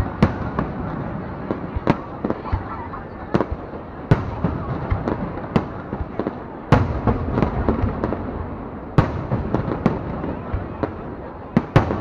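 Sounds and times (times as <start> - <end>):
fireworks booming and cracking: 0.0 - 12.0.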